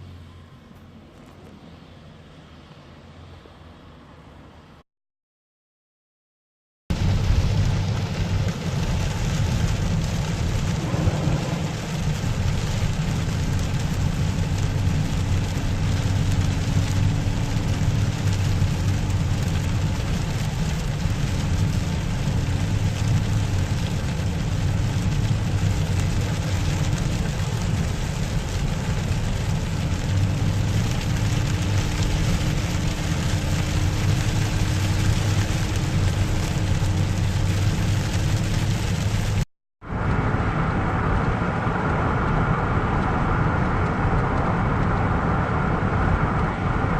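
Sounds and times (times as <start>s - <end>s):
rain falling: 6.9s - 46.9s.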